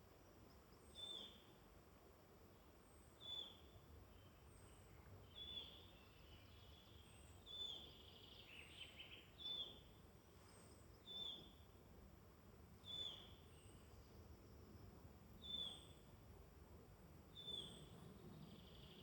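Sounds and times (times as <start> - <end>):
low woodland hum: 0.0 - 19.0.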